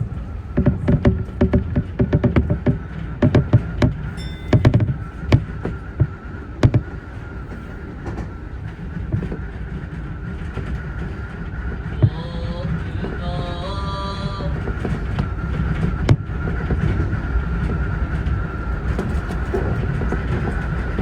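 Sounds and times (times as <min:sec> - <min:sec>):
train rumbling on rails: 0:00.0 - 0:21.0
wheel clicks over rail joints: 0:00.0 - 0:21.0.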